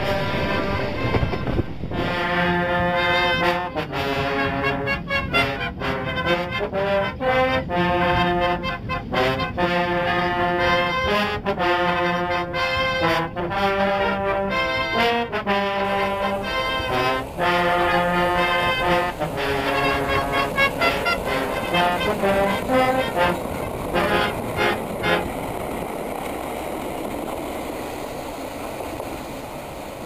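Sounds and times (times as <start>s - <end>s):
brass band playing: 0.0s - 25.4s
trombones: 0.0s - 25.5s.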